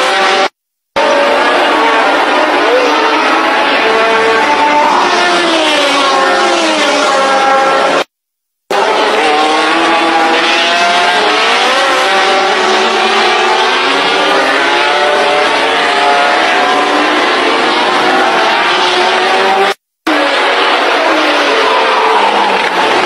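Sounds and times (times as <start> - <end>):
racing car engines at high revs: 0.0 - 23.0.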